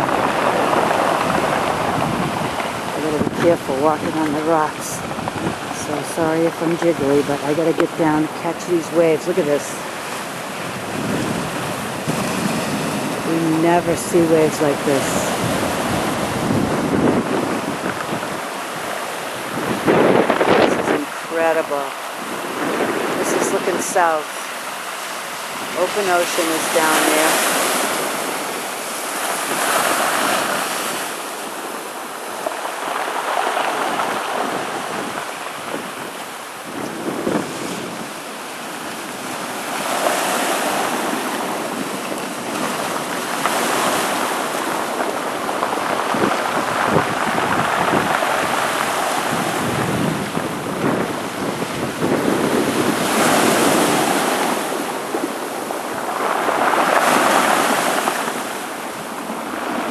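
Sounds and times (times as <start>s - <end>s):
surf crashing against rocks: 0.0s - 59.9s
wind buffeting microphone: 0.0s - 59.9s.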